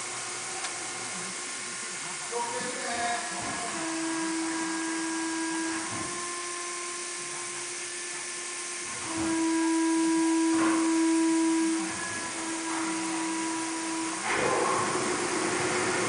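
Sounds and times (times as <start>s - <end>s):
machine motor whine: 0.0s - 16.0s.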